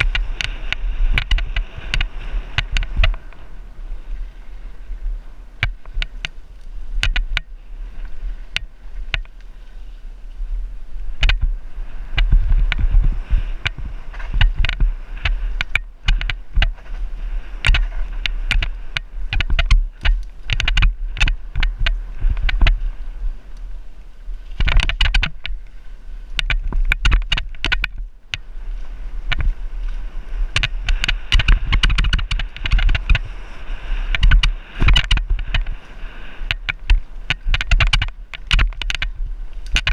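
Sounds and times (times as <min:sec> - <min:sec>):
bike clicks and rattles: 0:00.0 - 0:09.9, 0:10.9 - 0:39.9
wind: 0:00.0 - 0:39.9.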